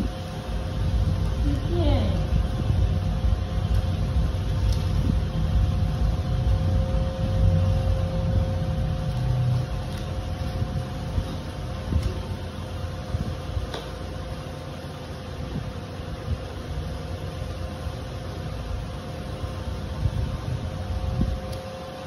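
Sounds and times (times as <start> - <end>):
low mechanical rumble with hum: 0.0 - 22.0.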